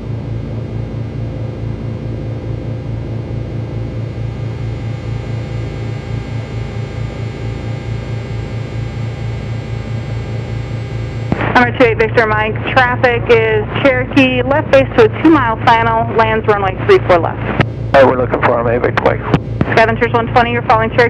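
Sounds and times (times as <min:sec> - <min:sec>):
airplane piston engines running: 0:03.6 - 0:21.0.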